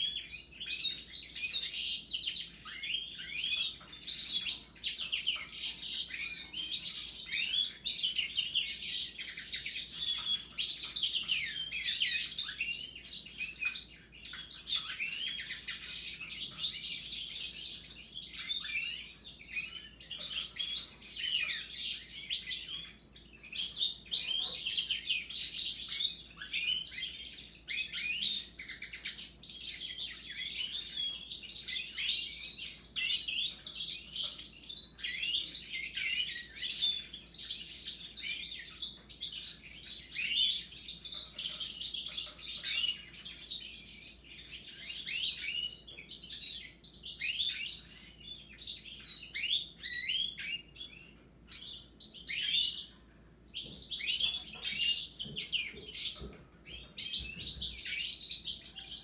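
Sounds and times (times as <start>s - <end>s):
finches and canaries singing: 0.0s - 59.0s.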